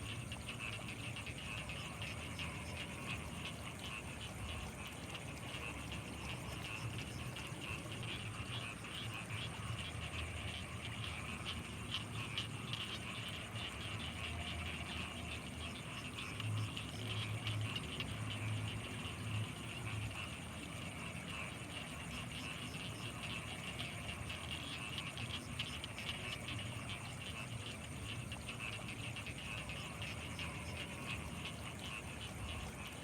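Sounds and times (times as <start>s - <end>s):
frogs and insects trilling: 0.0s - 33.0s.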